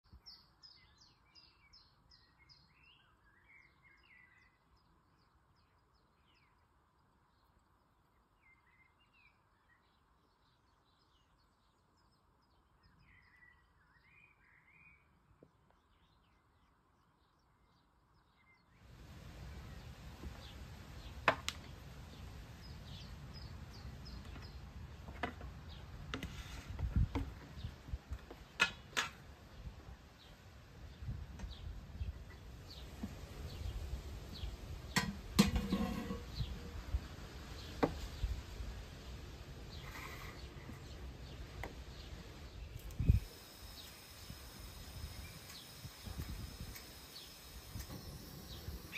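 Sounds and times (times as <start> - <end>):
outdoor ambience: 0.0 - 48.9
small birds chirping: 0.0 - 48.9.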